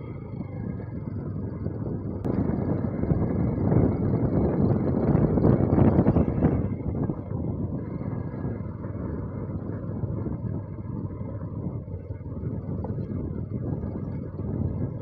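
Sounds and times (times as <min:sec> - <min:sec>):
motorcycle engine running: 0:00.0 - 0:15.0
rush of noise: 0:00.0 - 0:15.0.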